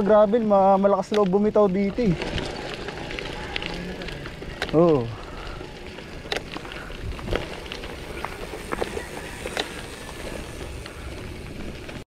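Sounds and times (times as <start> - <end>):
bicycle tyres rolling on rocky trail: 0.0 - 12.0
stones knocking and bike rattling: 0.0 - 12.0.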